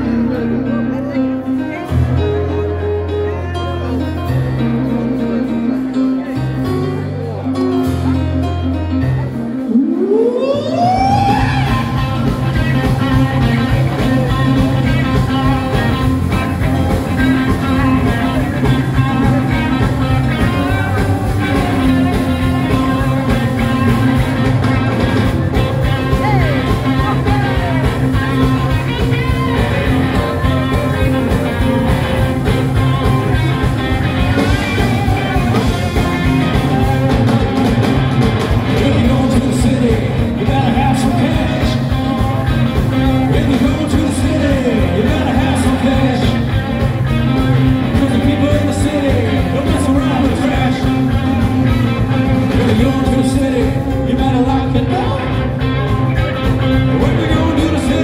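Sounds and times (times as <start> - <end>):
drums: 0.0 - 58.0
electric guitars: 0.0 - 58.0
keyboard: 0.0 - 58.0
lead singer singing: 9.8 - 55.8, 56.6 - 58.0.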